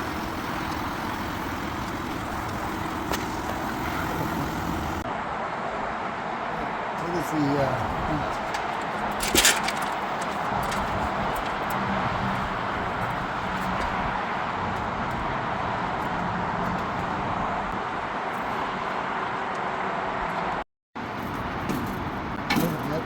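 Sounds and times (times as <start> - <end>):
steady mechanical noise: 0.0 - 23.0.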